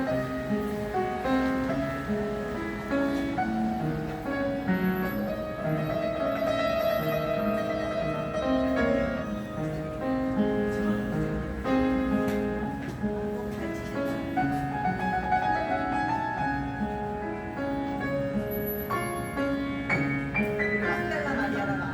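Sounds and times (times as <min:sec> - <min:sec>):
piano playing: 0:00.0 - 0:21.9.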